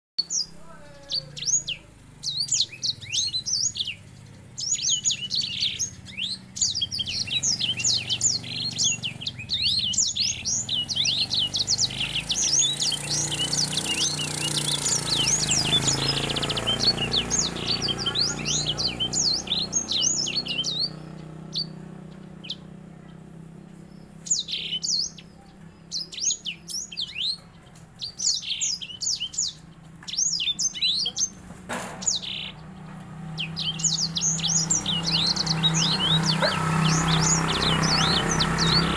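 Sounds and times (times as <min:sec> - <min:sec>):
finch singing trills: 0:00.2 - 0:38.9.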